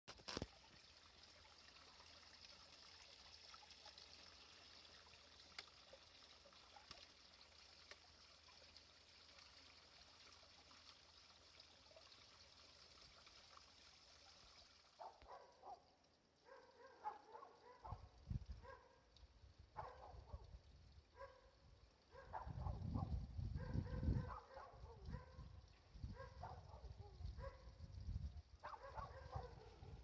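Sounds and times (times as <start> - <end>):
faint outdoor hiss: 0.1 - 30.0.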